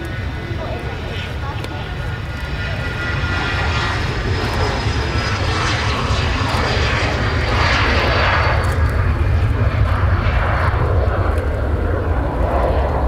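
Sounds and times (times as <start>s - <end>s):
jet roar: 0.0s - 13.0s
steady low rumble: 0.0s - 13.0s.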